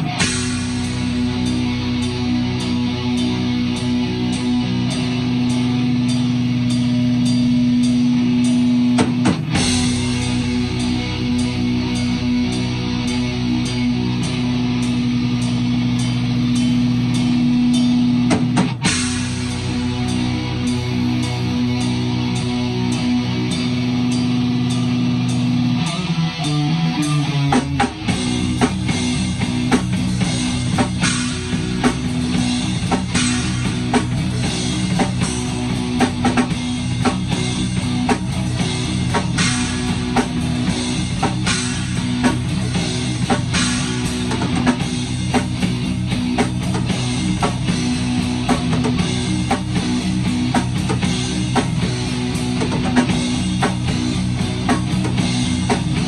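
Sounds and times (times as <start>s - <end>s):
drum kit beats: 0.0s - 56.0s
electric guitar and bass chord: 0.0s - 56.0s.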